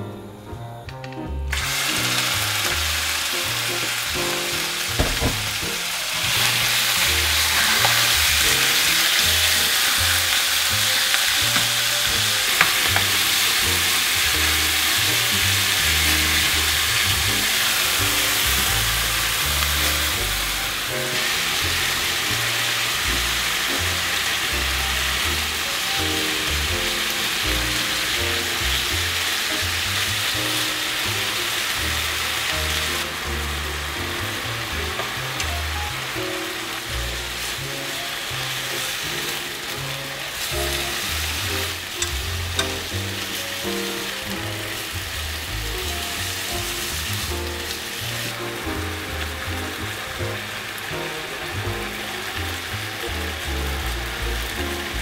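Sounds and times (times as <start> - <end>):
background music: 0.0 - 55.0
meat sizzling in hot oil: 1.5 - 55.0.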